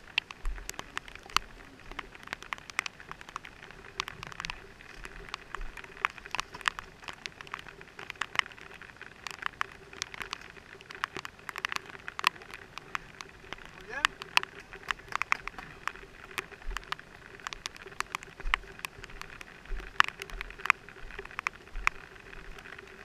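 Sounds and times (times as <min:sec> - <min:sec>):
raindrops ticking on helmet: 0:00.0 - 0:23.0
steady hiss of rain: 0:00.0 - 0:23.0.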